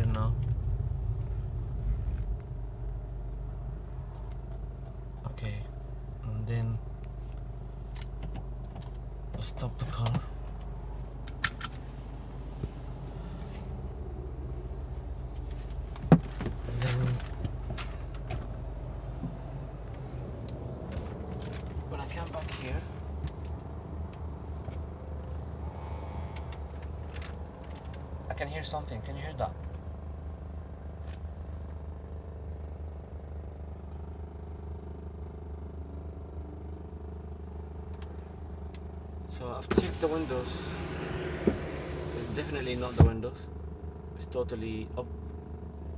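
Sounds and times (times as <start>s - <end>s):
vibrating noise in car: 0.0s - 28.8s, 29.4s - 44.1s
car engine idling: 0.0s - 45.9s.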